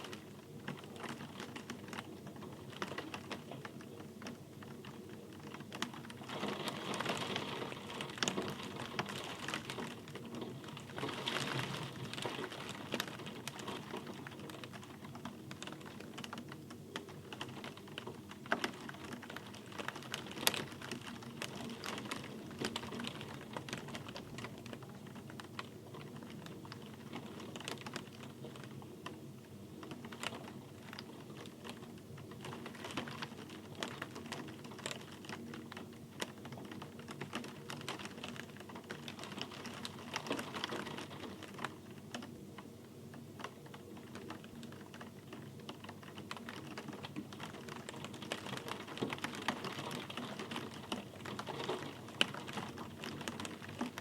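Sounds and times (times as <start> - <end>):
rain drops ticking on hard surface: 0.0 - 54.0
steady rain hiss: 0.0 - 54.0.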